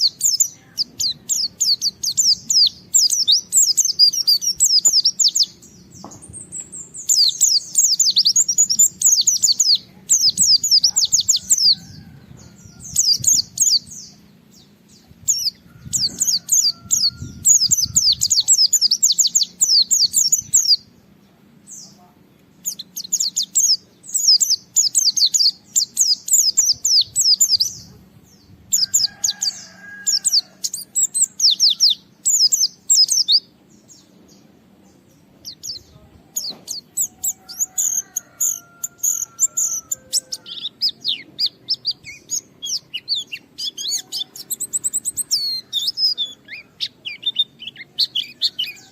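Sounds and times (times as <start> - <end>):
bird singing chattering phrases: 0.0 - 48.9.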